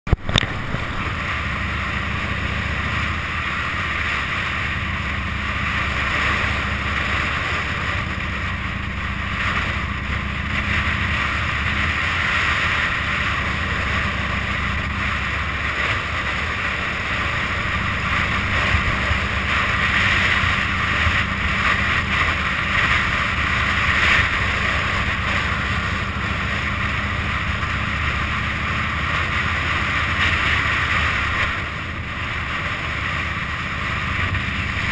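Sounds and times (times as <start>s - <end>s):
motorcycle engine rumbling: 0.1s - 34.9s
wind rushing over microphone: 0.1s - 34.9s.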